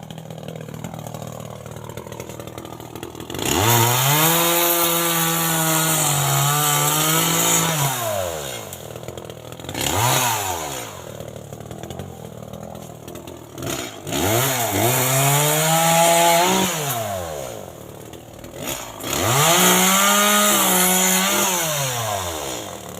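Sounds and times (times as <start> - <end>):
chainsaw revving and idling: 0.0 - 22.9.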